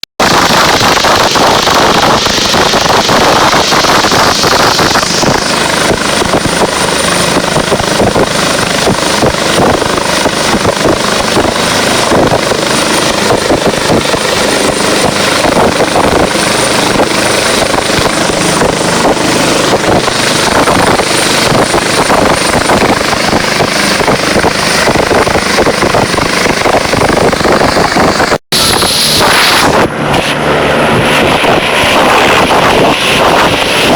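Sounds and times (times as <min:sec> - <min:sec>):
helicopter rotor chop: 0:00.0 - 0:33.9
thin high whine: 0:00.2 - 0:33.9.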